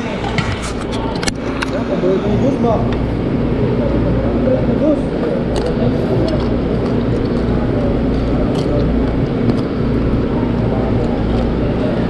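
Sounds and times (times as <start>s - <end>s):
ship machinery drone: 0.0s - 12.0s.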